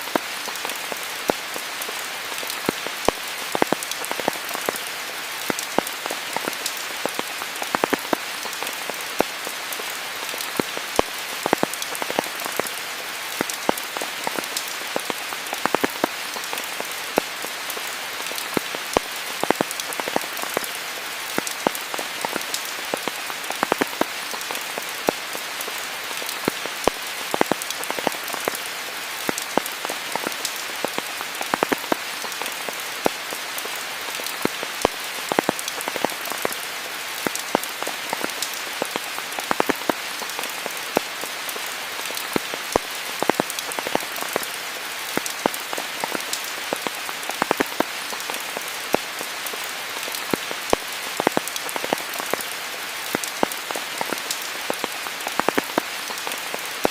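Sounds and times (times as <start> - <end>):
raindrops pattering on leaves: 0.0 - 56.9
steady rain falling: 0.0 - 56.9.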